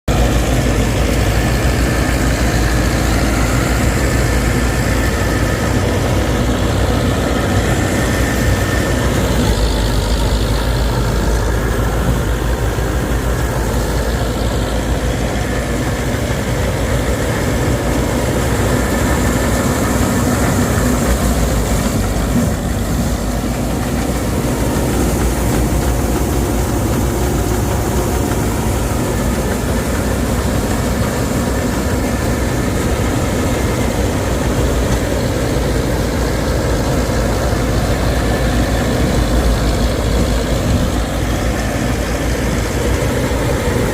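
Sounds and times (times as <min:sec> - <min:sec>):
harvesting machine engine rumbling: 0:00.1 - 0:43.9.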